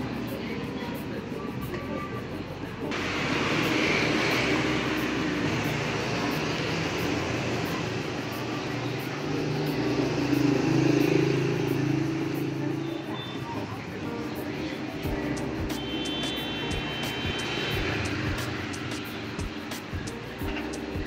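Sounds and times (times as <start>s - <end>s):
motorbike engines passing: 2.5s - 21.0s.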